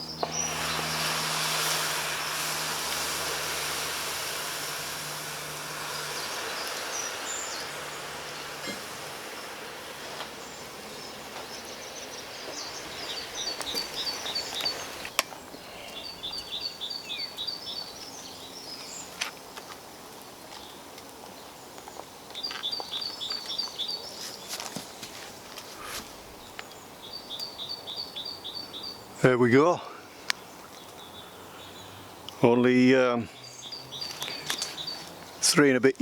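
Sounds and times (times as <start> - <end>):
background noise: 0.0 - 36.0
songbird singing: 0.0 - 36.0.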